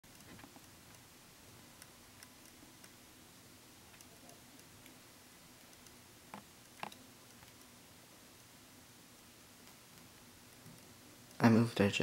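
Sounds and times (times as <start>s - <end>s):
faint scattered ticks: 0.0s - 11.6s.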